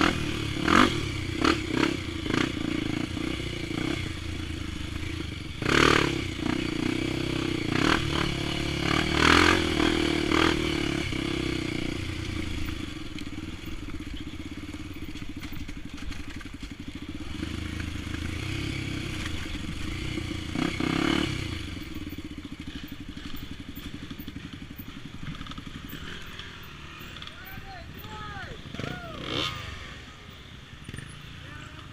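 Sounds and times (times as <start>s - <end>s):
motorcycle engine idling: 0.0s - 9.0s, 10.3s - 29.4s
motorcycle engine revving: 0.0s - 31.9s.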